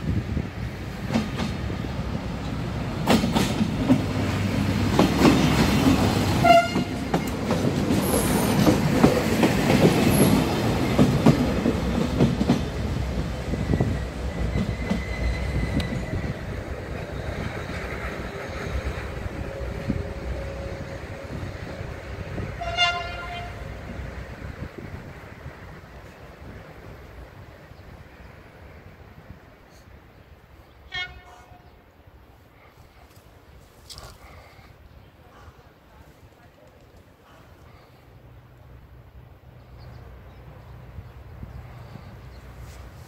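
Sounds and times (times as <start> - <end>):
train passing: 0.0 - 43.0.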